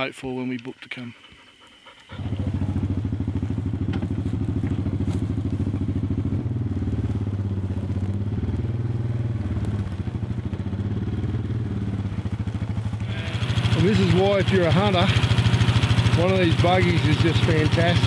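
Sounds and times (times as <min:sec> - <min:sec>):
buggy engine idling: 0:02.1 - 0:18.0.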